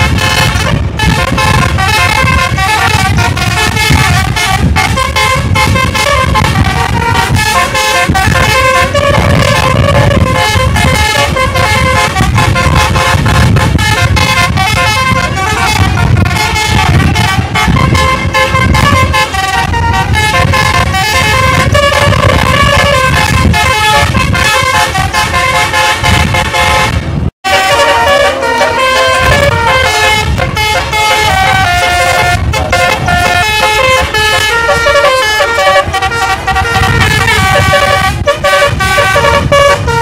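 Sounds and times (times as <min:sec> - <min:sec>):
engine noise: 0:00.0 - 0:40.0
multi-tone bus horn tunes: 0:00.0 - 0:40.0.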